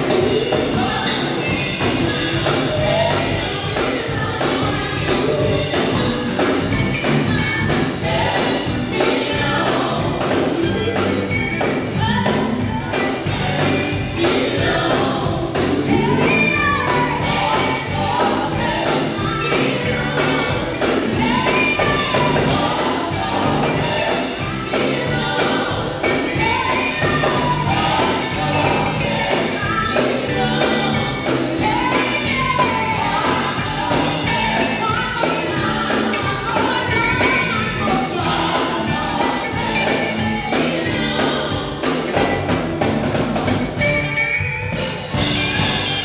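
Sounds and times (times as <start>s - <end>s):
women singing together: 0.0s - 10.8s, 11.9s - 42.4s
gospel band playing: 0.0s - 46.0s.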